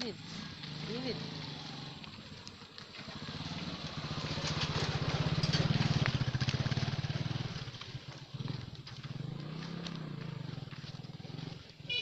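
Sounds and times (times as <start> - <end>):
motorcycle engine passing: 0.0 - 12.0.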